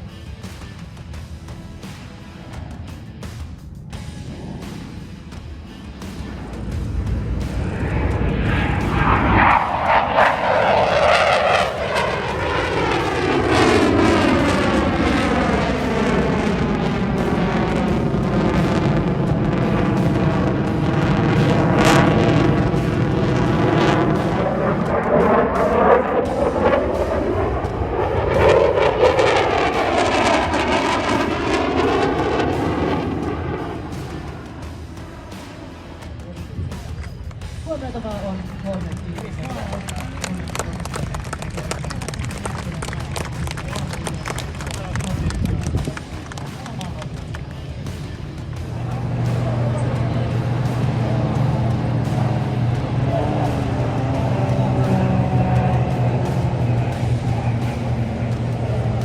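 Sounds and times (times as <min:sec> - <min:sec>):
aircraft flying past: 0:00.0 - 0:59.0.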